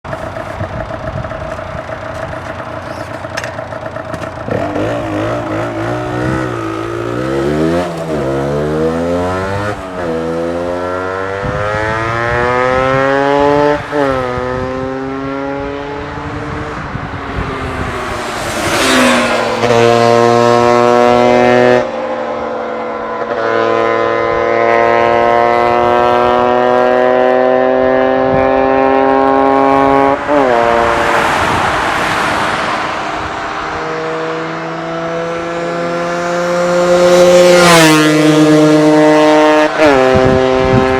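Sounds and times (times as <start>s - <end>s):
two-stroke engine idling and revving: 0.1s - 31.8s, 33.2s - 40.9s.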